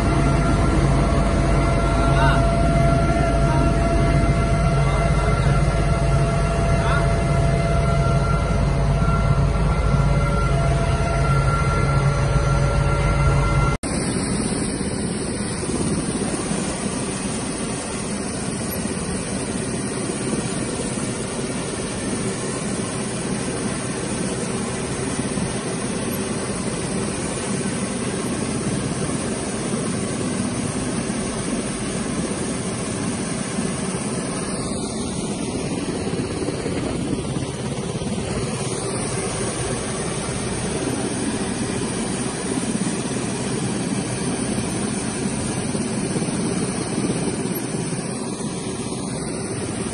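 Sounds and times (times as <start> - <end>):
helicopter engines and rotors: 0.0 - 49.9
high turbine whine: 0.0 - 49.9.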